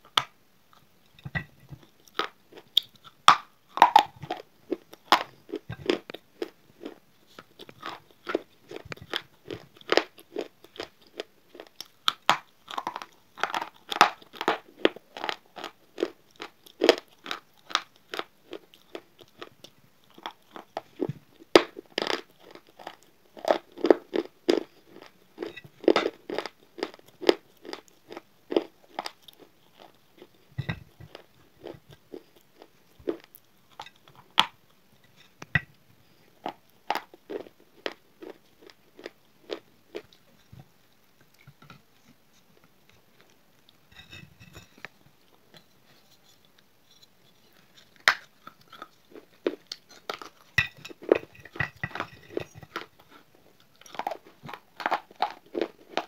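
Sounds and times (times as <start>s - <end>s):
person crunching chewing: 1.8s - 34.5s, 36.1s - 40.5s, 47.4s - 56.0s.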